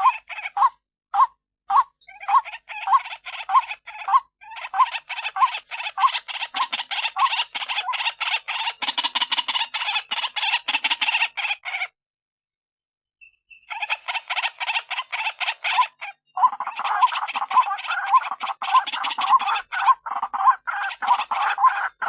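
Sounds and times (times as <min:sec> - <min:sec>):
bird calling harsh repeated notes: 0:00.0 - 0:12.0, 0:13.2 - 0:22.0.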